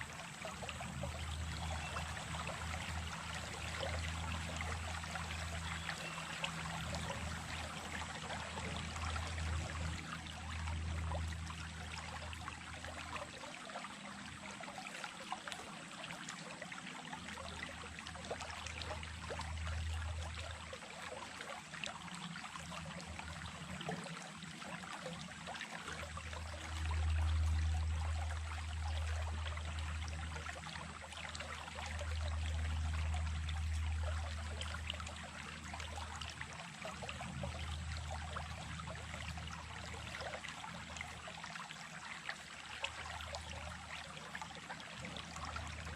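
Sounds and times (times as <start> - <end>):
stream water trickling over stones: 0.0 - 45.9.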